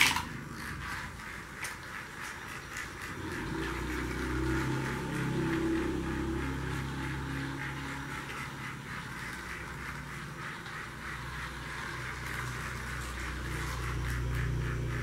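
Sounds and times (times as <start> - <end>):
toy train chugging: 0.0 - 15.0
toy train motor humming: 0.0 - 15.0.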